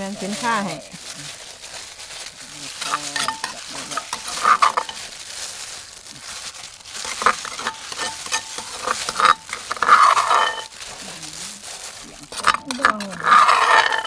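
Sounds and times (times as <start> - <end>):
utensils clattering with food: 0.0 - 14.0.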